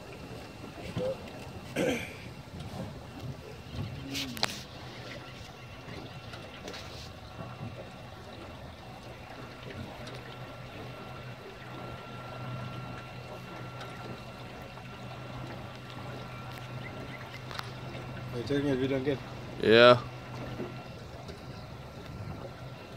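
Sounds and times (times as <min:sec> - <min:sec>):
outboard motor humming: 0:00.0 - 0:22.9
water lapping along hull: 0:00.0 - 0:22.9.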